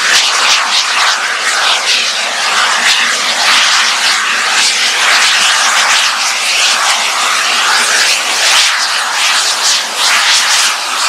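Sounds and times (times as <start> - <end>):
steam locomotive exhaust roar: 0.0 - 11.0.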